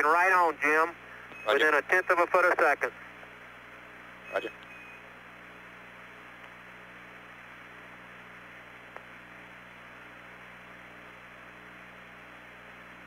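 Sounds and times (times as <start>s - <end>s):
radio channel hiss and hum: 0.0s - 13.0s.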